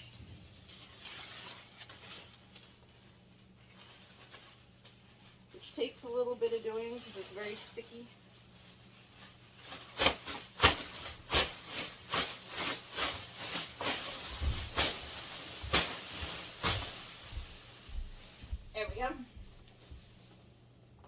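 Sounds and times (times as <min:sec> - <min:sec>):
plastic sheet crinkling: 0:00.0 - 0:20.7.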